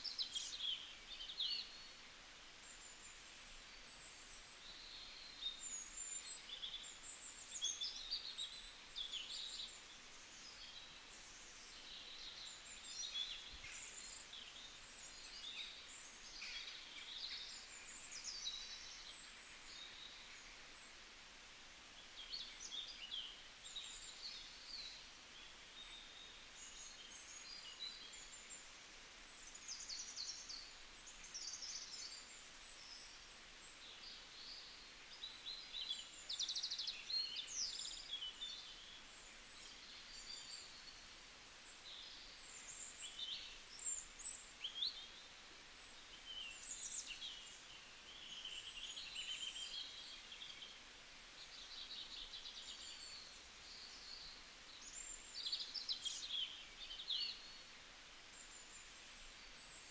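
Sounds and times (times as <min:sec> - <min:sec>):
faint steady hiss: 0:00.0 - 0:59.9
songbirds chirping and twittering: 0:00.0 - 0:59.9.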